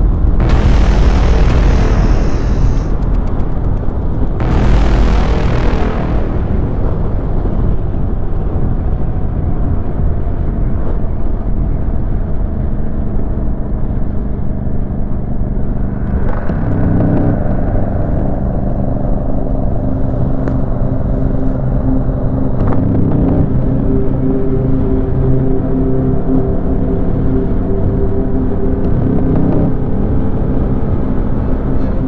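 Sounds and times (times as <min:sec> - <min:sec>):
wind rumble on microphone: 0:00.0 - 0:32.0.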